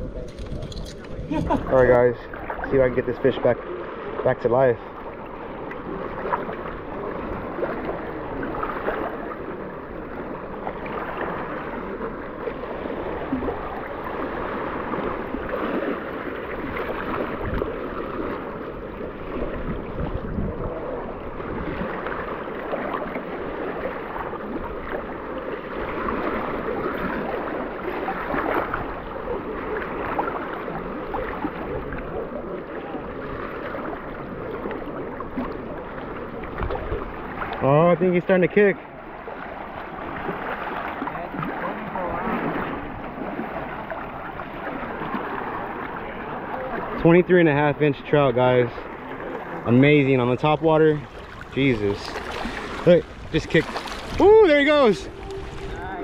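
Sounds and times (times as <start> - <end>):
water sloshing and lapping: 0.0 - 56.0.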